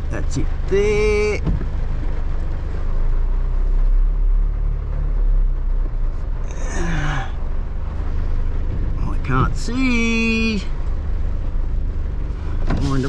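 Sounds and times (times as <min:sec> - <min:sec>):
vehicle engine running low: 0:00.0 - 0:13.0.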